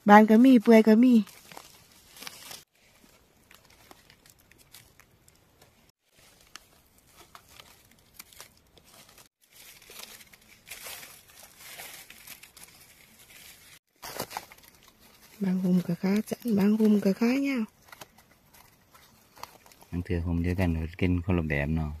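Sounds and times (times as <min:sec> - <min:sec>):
dry leaves rustling and crackling: 0:00.6 - 0:20.0.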